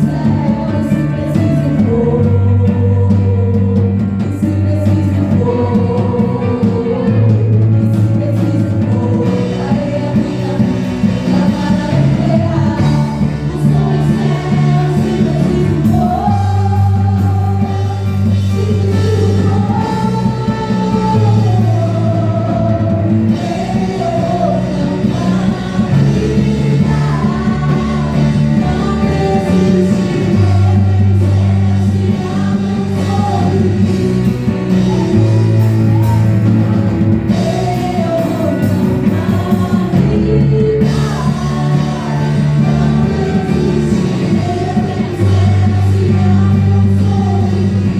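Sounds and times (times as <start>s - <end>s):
bass guitar long notes: 0.0s - 47.9s
live worship band playing: 0.0s - 47.9s
person singing: 0.0s - 47.9s.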